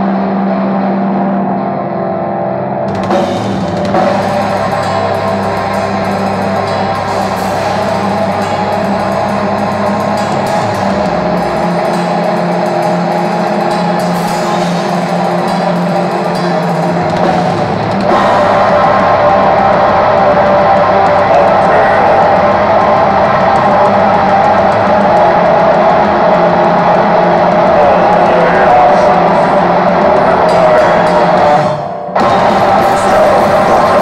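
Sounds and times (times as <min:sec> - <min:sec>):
distorted electric guitars: 0:00.0 - 0:34.0
drum kit with cymbals: 0:02.9 - 0:34.0.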